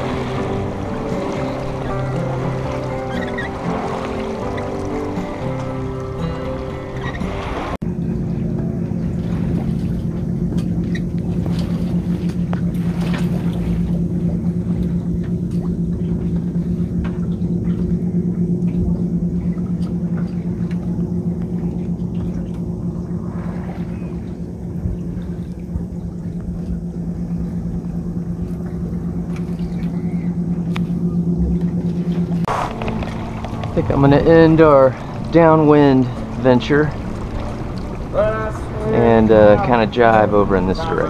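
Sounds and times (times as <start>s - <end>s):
steady low hum: 0.0s - 41.0s
water washing along hull: 0.0s - 41.0s.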